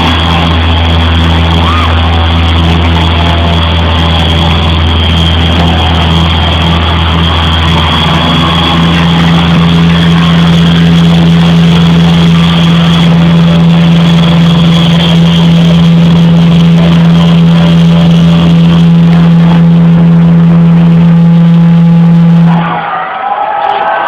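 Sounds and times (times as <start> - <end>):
high feedback tone: 0.0 - 22.9
distorted guitars and bass: 0.0 - 23.2.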